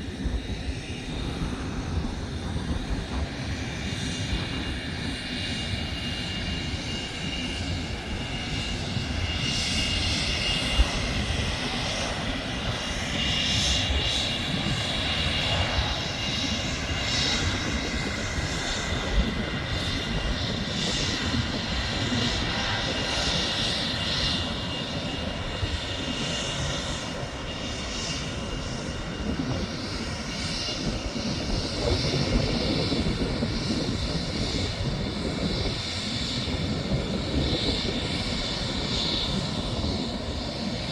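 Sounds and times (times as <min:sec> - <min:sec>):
high jet whine: 0:00.0 - 0:40.9
jet engine rumble: 0:00.0 - 0:40.9.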